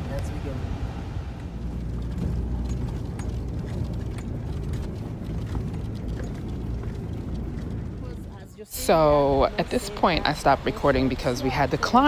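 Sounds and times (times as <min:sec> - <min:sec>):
engine and road rumble in car: 0:00.0 - 0:12.0.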